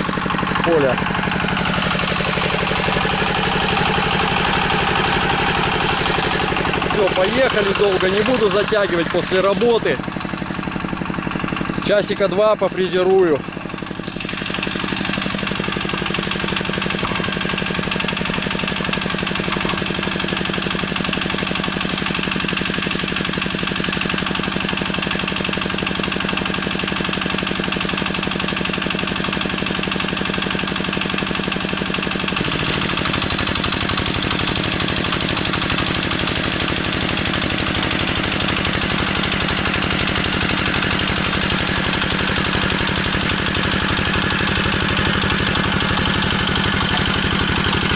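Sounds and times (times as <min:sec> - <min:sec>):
rotary tiller milling soil: 0:00.0 - 0:47.9
tractor engine running: 0:00.0 - 0:47.9.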